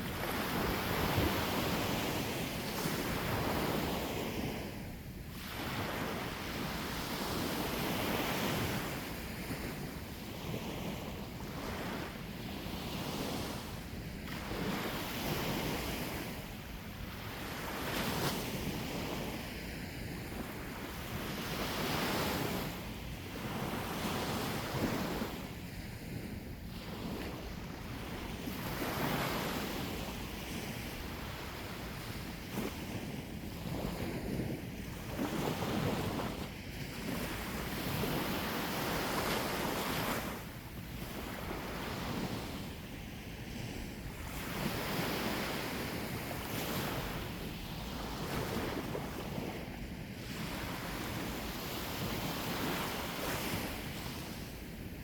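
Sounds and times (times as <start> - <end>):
wind rumbling on microphone: 0.0 - 55.0.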